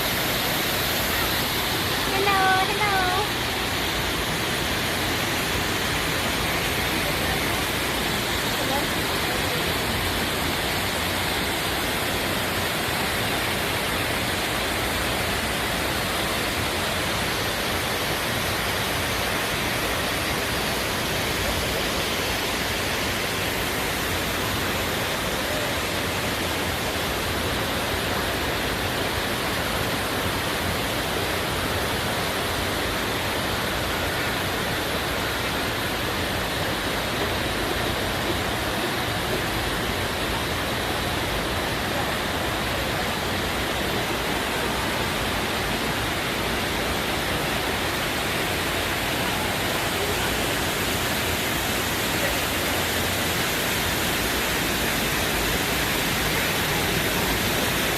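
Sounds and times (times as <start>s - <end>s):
waterfall splashing into a pool: 0.0s - 57.9s.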